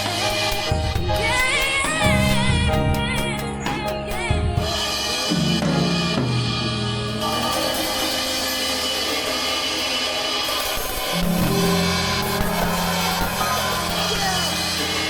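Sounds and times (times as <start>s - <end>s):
cymbals washing: 0.0s - 15.0s
drum kit playing: 0.0s - 15.0s.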